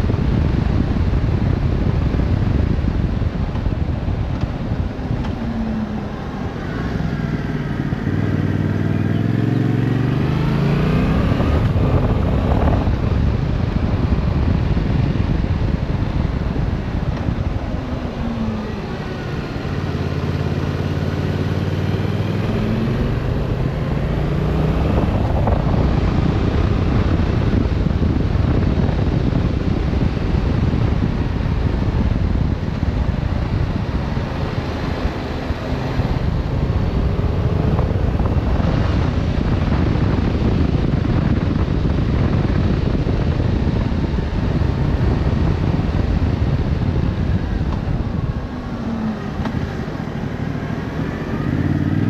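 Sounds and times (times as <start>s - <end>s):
motorcycle engine accelerating: 0.0s - 52.0s
wind noise: 0.0s - 52.0s.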